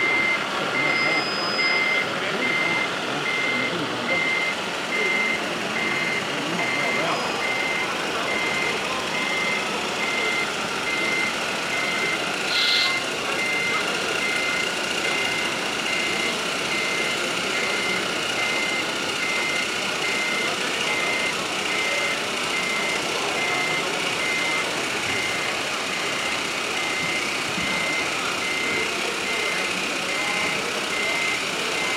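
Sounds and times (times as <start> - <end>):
reversing beeper: 0.0 - 31.9.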